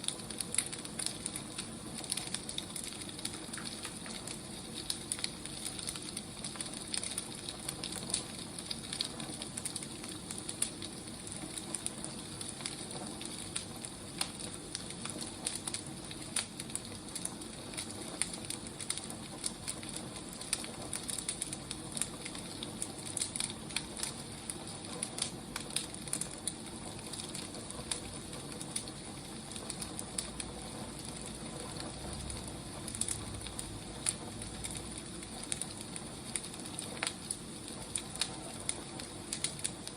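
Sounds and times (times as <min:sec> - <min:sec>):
firewood burning and crackling: 0:00.0 - 0:39.9.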